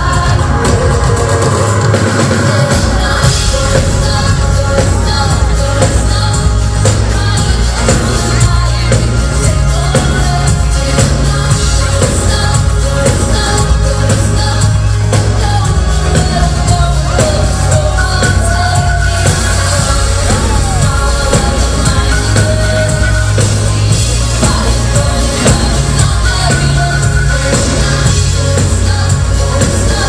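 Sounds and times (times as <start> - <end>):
bass line: 0.0 - 30.0
drum kit: 0.0 - 30.0
person singing: 0.0 - 30.0.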